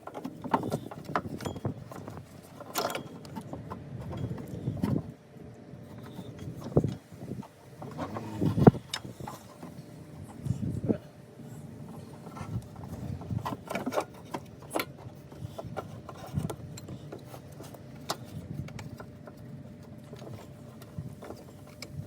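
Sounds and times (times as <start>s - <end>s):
clicks and taps on engine pulleys: 0.0s - 5.2s, 5.8s - 10.6s, 11.8s - 22.0s.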